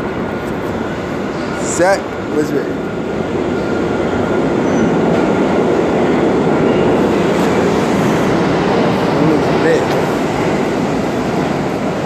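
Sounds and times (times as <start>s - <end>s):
subway train rumbling on rails: 0.0s - 12.0s.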